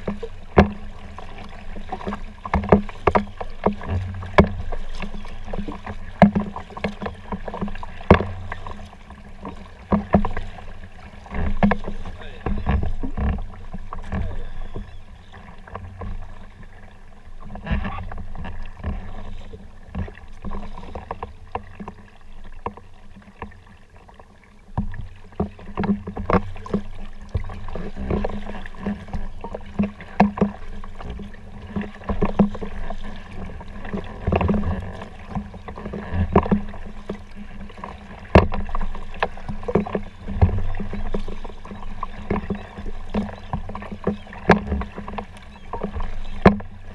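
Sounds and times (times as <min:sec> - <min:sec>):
paddle blades splashing water: 0:00.0 - 0:46.9.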